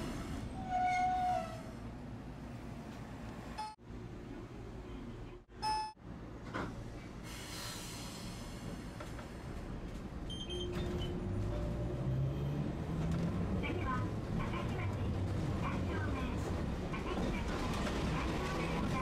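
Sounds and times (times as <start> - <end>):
streetcar rumbling: 0.0 - 19.0.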